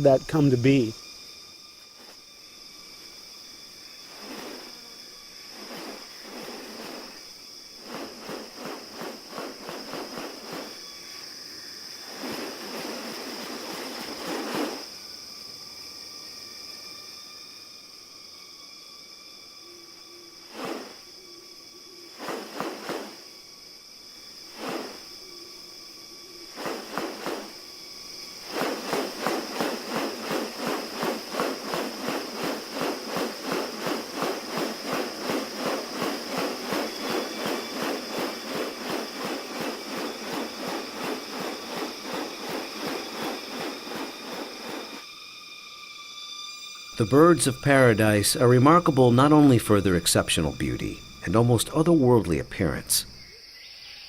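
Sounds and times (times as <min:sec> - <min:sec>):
high insect whine: 0:00.0 - 0:54.0.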